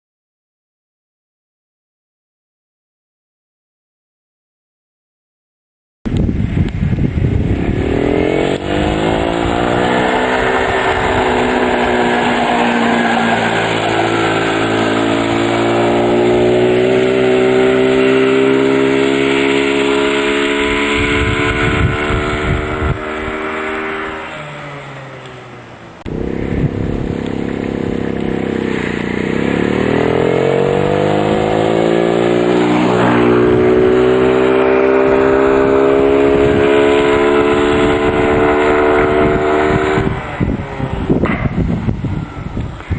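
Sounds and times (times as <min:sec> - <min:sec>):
quad engine revving: 0:06.8 - 0:42.9.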